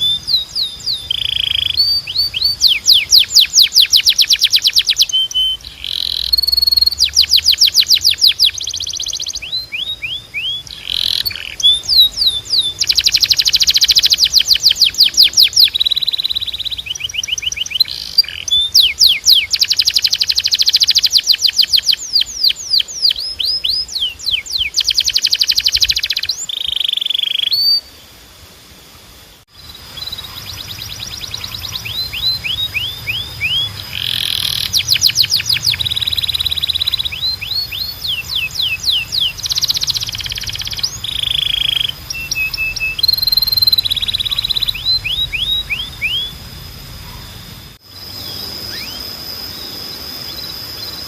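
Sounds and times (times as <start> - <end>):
canary singing fast trills: 0.0 - 28.2, 29.5 - 51.0.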